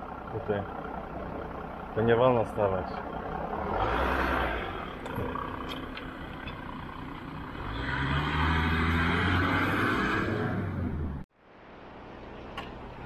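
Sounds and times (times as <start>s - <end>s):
car engines passing: 0.0s - 11.3s.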